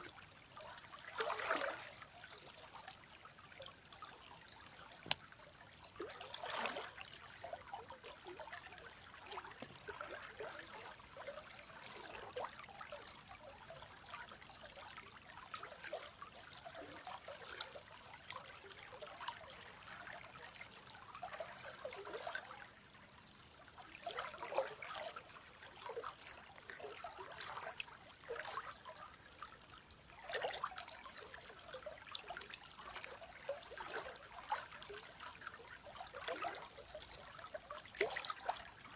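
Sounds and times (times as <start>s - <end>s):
river water trickling: 0.0s - 38.9s.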